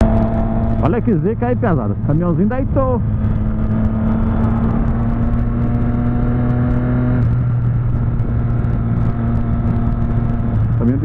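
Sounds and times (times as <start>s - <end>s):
motorcycle engine cruising: 0.0s - 11.0s
wind on microphone: 0.0s - 11.0s.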